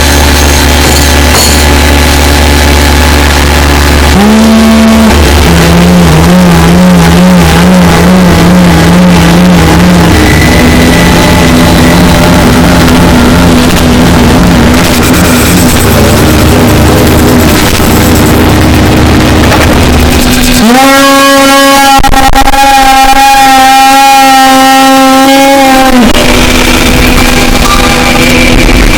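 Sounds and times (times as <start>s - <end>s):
distorted noise wall: 0.0s - 28.9s
steady low drone: 0.0s - 28.9s
warbling wavering tone: 0.0s - 28.9s.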